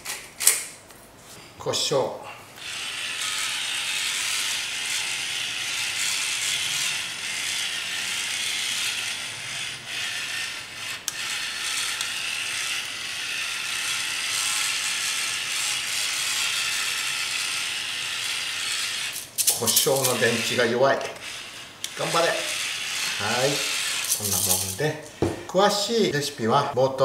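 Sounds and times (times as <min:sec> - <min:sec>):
electric pepper mill grinding: 0:02.6 - 0:24.9.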